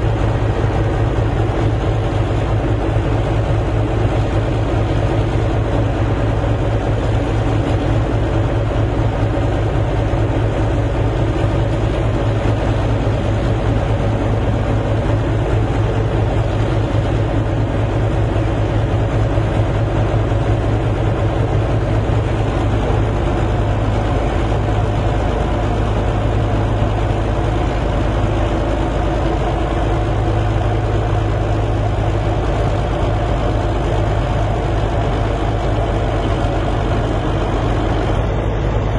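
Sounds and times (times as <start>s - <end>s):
heavy engine humming steadily: 0.0s - 38.9s.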